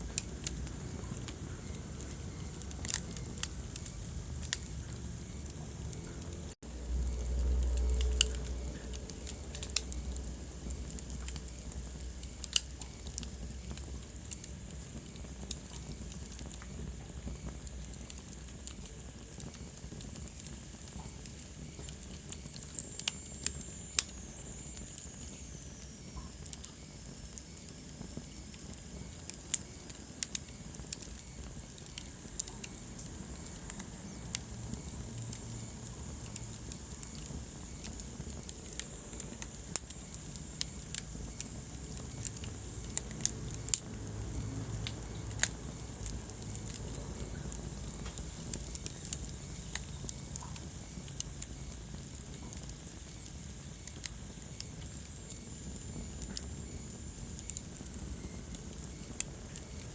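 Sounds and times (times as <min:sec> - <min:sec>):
rumble of flame: 0:00.0 - 0:59.9
wood fire popping and snapping: 0:00.0 - 0:59.9.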